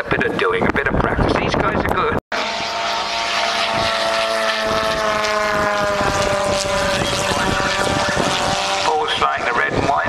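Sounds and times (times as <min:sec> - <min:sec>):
propeller aircraft engine droning: 0:00.0 - 0:10.0.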